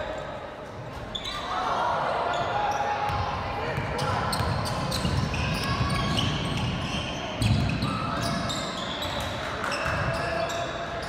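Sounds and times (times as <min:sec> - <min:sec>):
murmur of voices: 0:00.0 - 0:11.0
sneaker squeaks: 0:00.7 - 0:11.0.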